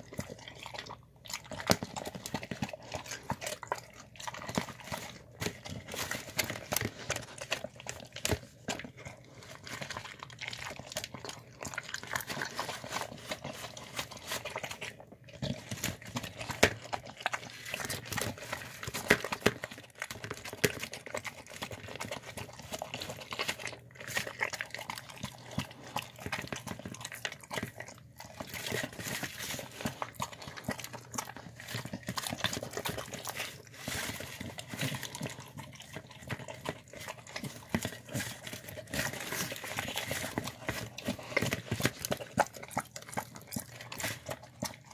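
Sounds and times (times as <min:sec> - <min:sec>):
dog chewing wet food: 0:00.0 - 0:44.9.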